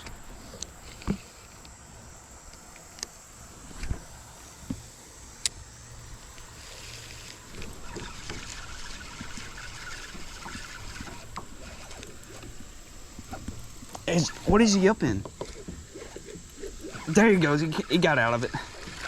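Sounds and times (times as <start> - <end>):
creek water splashing: 3.4 - 19.0.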